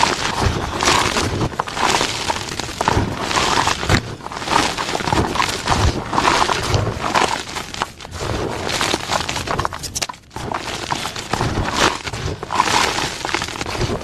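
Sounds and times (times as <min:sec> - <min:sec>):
chalk blocks being crushed: 0:00.0 - 0:14.0.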